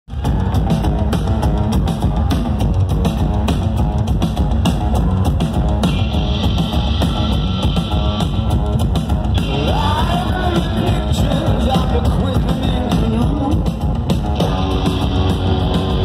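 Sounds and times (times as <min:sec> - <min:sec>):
electric guitars: 0:00.1 - 0:16.0
steady drum beat: 0:00.1 - 0:16.0.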